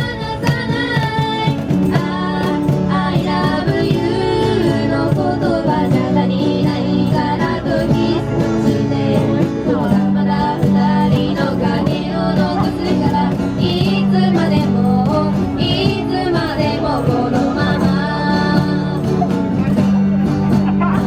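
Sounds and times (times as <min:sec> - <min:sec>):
person singing: 0:00.0 - 0:19.4
bass guitar: 0:00.0 - 0:21.0
guitar: 0:00.0 - 0:21.0.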